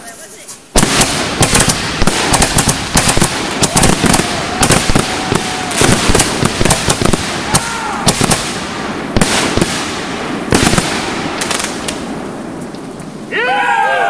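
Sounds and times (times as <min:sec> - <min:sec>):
fireworks crackling: 0:00.0 - 0:13.4
fireworks bangs: 0:00.1 - 0:13.4.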